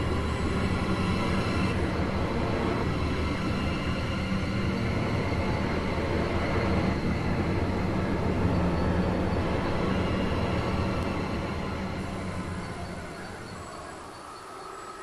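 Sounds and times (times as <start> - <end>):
rumbling mechanical drone: 0.0 - 14.3.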